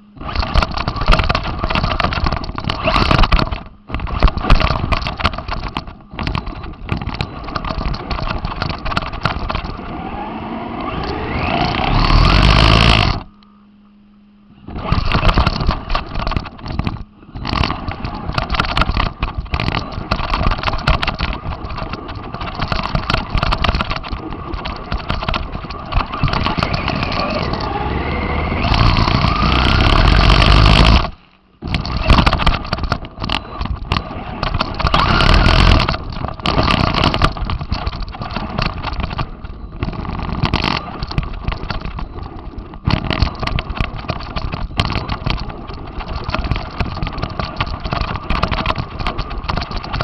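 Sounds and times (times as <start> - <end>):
rc car motor whine and rattling: 0.0 - 13.7, 14.4 - 50.0
faint steady hum: 0.0 - 50.0.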